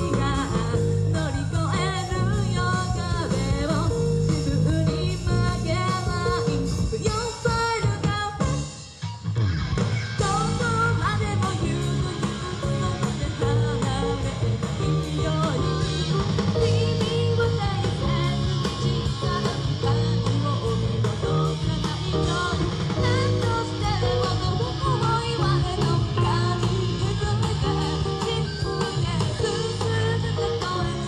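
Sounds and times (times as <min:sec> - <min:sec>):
person singing: 0:00.0 - 0:08.7, 0:10.2 - 0:31.0
live rock band: 0:00.0 - 0:31.0.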